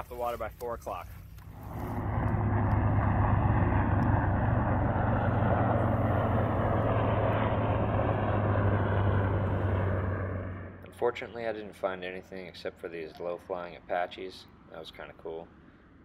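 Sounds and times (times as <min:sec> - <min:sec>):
helicopters passing overhead: 0:00.8 - 0:15.0.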